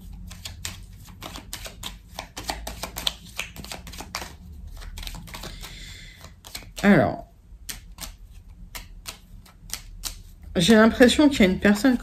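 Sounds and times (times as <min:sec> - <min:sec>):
cards being shuffled: 0:00.0 - 0:11.5.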